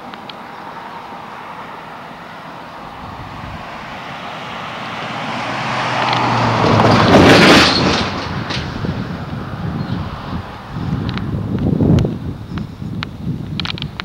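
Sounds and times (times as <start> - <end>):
vehicle passing by: 0.0 - 12.4.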